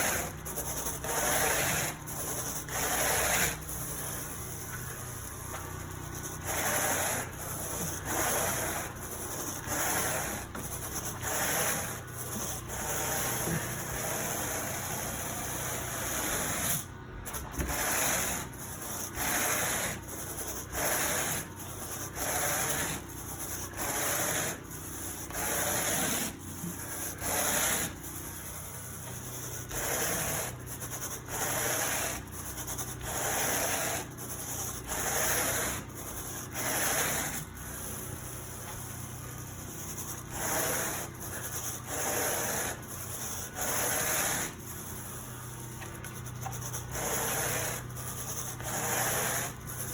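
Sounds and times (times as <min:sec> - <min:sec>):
carpet rake scratching carpet: 0:00.0 - 0:49.9.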